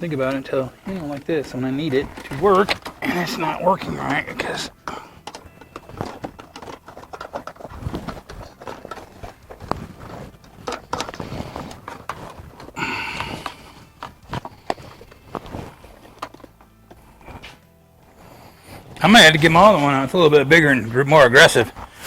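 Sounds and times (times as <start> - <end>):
steel fish tape scraping: 0.0 - 22.0.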